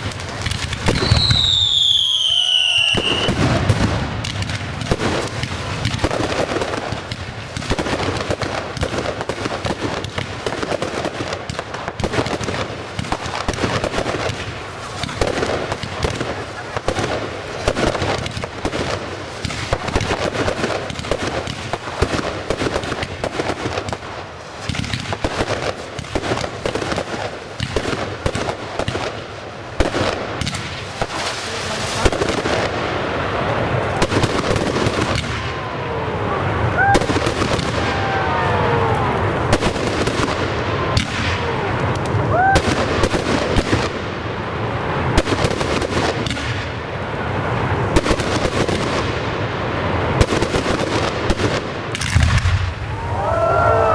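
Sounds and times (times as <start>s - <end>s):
fireworks bangs and crackling: 0.0s - 53.9s
whistling fireworks: 0.0s - 53.9s.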